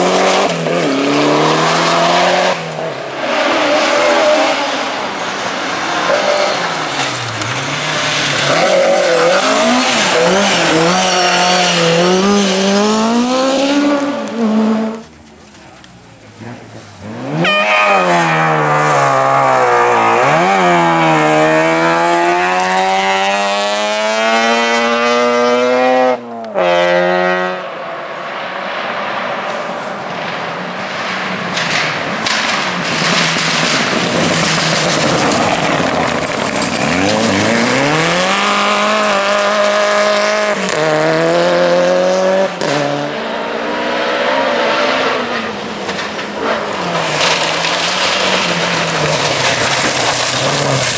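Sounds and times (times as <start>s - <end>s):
rally car engines accelerating: 0.0s - 27.8s, 28.8s - 50.9s
road noise: 0.0s - 50.9s.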